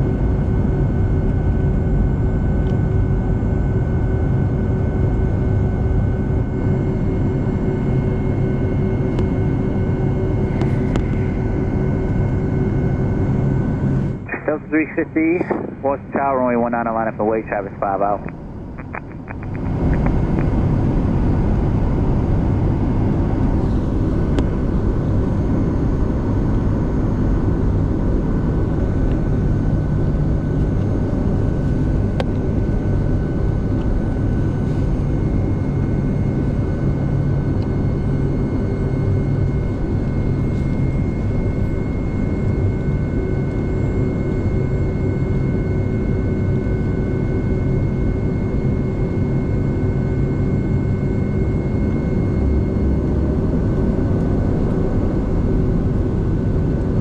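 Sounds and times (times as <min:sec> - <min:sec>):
jet engines rumbling and whining: 0:00.0 - 0:57.0.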